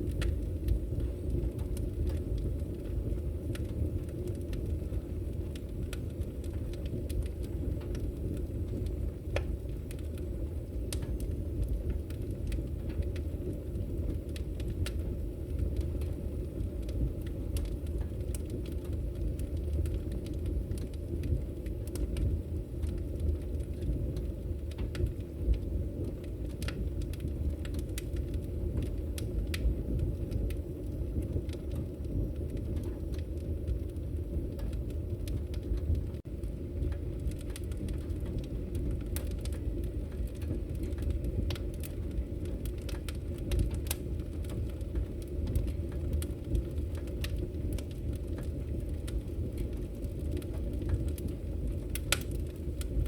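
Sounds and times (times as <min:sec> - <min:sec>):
fire low rumble: 0:00.0 - 0:53.0
wood fire crackling and popping: 0:00.0 - 0:53.0.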